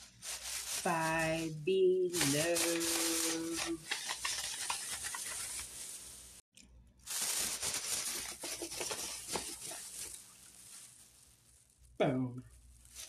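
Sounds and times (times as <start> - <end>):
plastic bag rustling: 0.0 - 6.4, 7.0 - 13.0.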